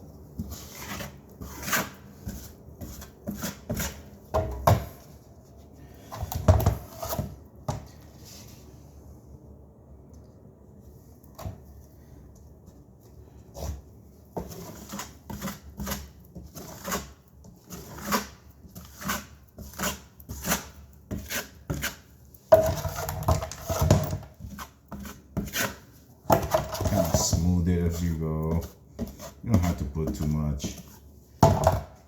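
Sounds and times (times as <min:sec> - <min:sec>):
putty knife scraping compound: 0:00.2 - 0:08.5, 0:13.4 - 0:32.0.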